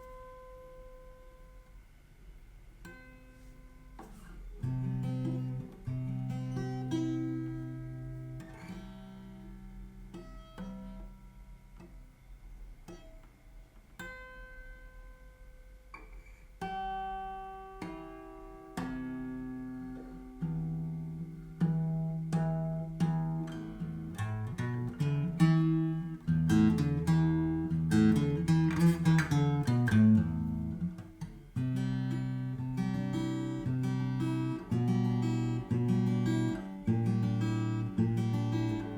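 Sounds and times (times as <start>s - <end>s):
acoustic guitar plucked: 2.8s - 15.0s, 15.9s - 38.9s.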